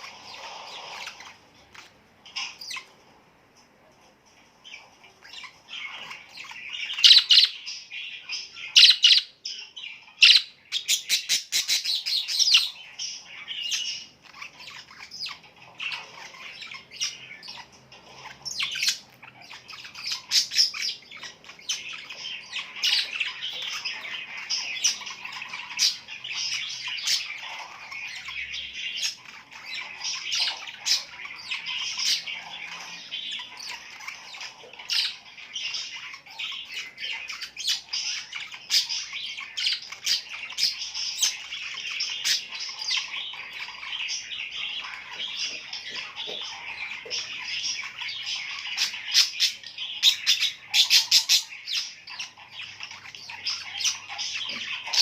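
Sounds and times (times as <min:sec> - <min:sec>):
flock of small birds chirping: 0:00.0 - 0:55.0.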